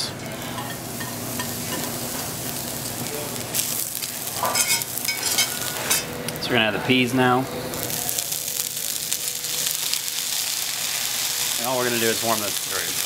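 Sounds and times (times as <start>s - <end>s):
mushrooms sizzling in oil: 0.0s - 13.0s.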